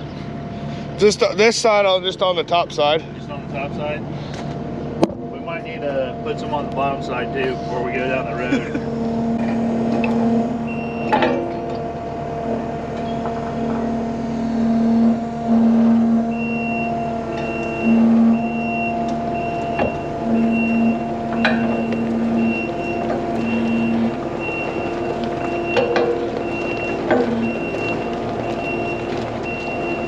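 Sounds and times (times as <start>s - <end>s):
vehicle engine humming: 0.0s - 30.0s
reversing alarm beeping: 5.4s - 30.0s.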